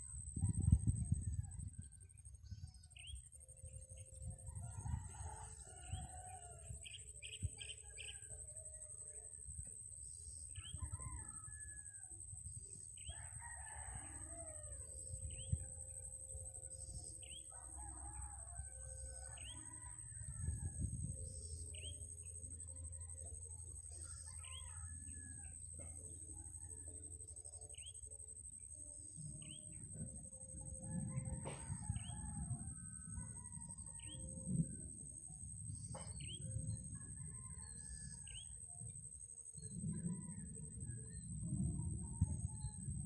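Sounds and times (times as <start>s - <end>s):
distant roosters crowing: 4.4s - 9.1s, 10.6s - 22.6s, 23.8s - 28.6s, 29.4s - 43.0s.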